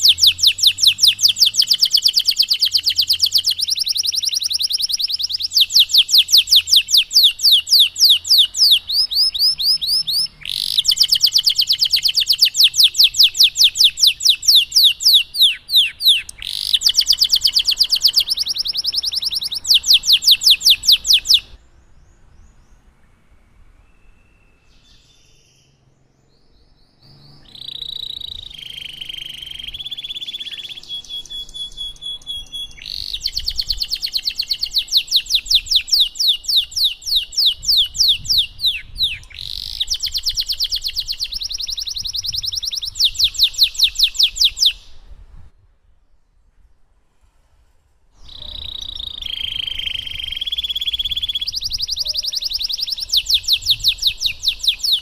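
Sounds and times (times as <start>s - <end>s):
canary singing trills: 0.0s - 21.6s, 23.8s - 45.2s, 48.2s - 55.0s.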